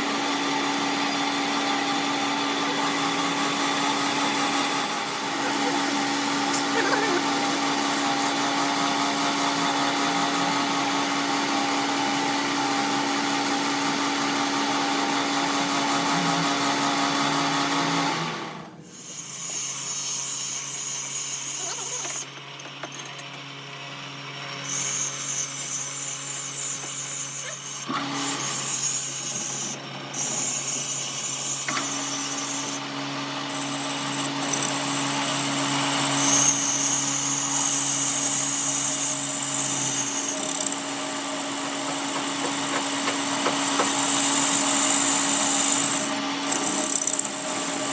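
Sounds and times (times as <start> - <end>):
power tool running: 0.0 - 47.9.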